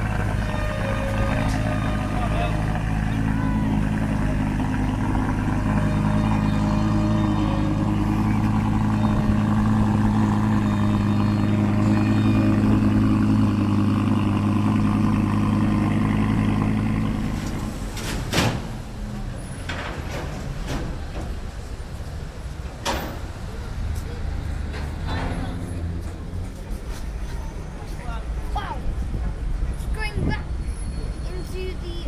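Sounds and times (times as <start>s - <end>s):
street sound: 0.0s - 32.0s
vehicle engine humming: 0.0s - 32.0s.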